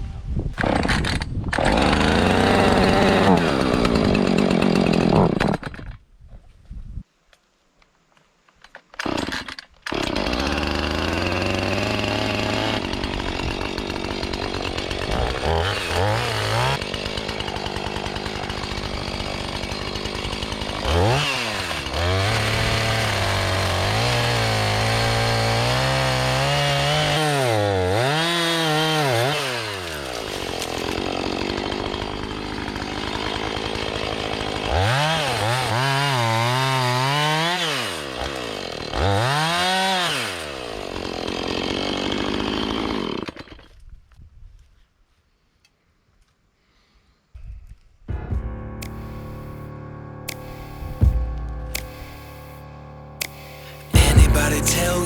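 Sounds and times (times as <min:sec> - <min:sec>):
chainsaw cutting tree: 0:00.6 - 0:05.8, 0:09.0 - 0:43.8, 0:50.3 - 0:55.0.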